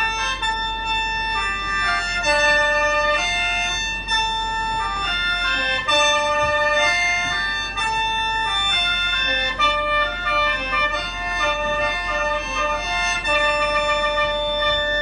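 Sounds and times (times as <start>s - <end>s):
free-reed mouth organ melody: 0.0s - 15.0s.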